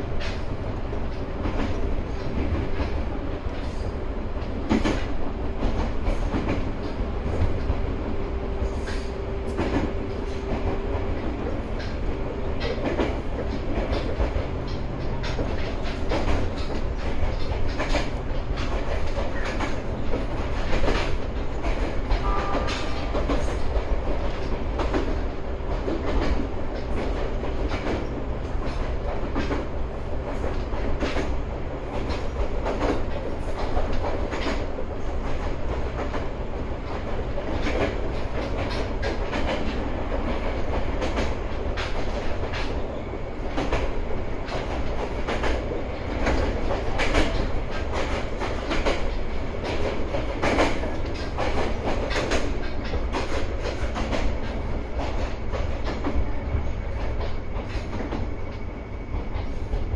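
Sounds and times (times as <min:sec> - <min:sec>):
wheels clacking over rail joints: 0:00.0 - 0:07.8, 0:08.6 - 0:59.9
electric train rumbling: 0:00.0 - 0:59.9.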